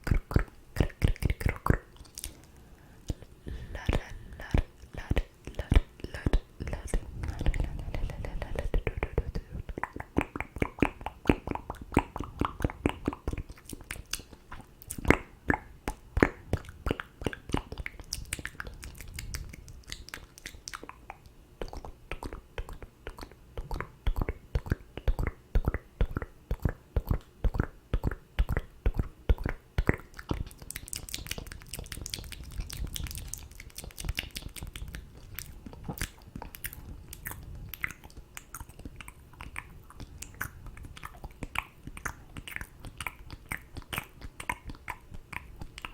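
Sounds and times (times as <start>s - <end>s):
wet mouth clicks and lip smacks: 0.0s - 2.5s, 3.9s - 45.9s.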